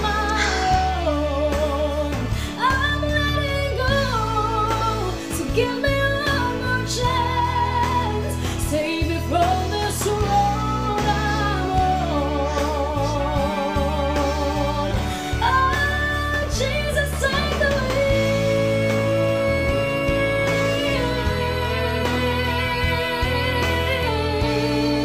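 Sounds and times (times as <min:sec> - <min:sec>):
instrumental accompaniment: 0:00.0 - 0:25.0
woman singing a ballad: 0:00.0 - 0:25.0.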